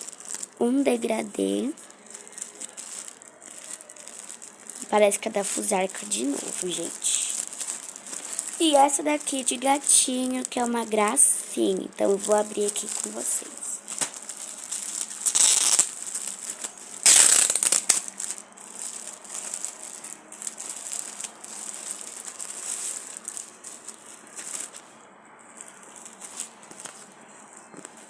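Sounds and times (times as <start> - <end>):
plastic packaging crinkling: 0.0 - 28.0.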